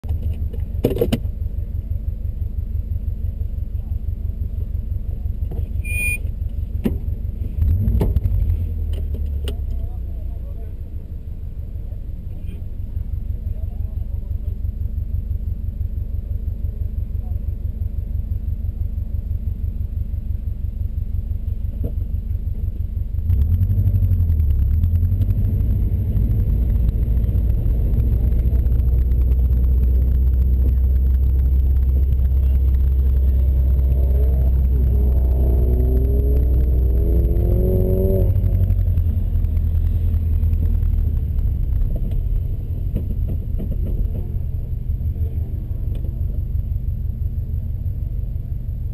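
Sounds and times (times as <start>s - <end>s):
car engine from inside cabin: 0.0s - 48.9s.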